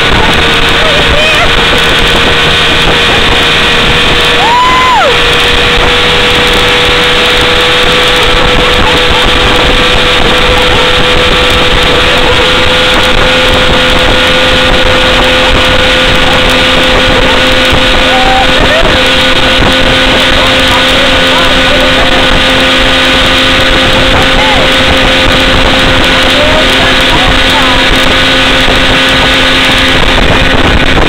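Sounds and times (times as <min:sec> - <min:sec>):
outboard motor running: 0:00.0 - 0:31.0
rush of water and air: 0:00.0 - 0:31.0.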